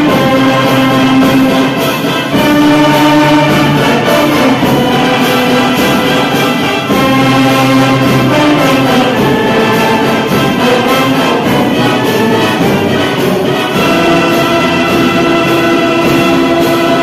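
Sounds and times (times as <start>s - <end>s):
wind band playing a hymn: 0.0s - 17.0s.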